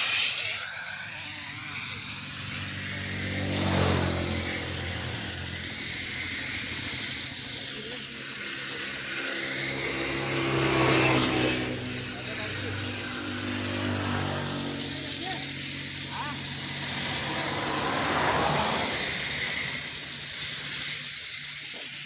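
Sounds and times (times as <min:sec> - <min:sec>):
engine-like hum: 0:00.0 - 0:22.0
spray gun hissing: 0:00.0 - 0:22.0.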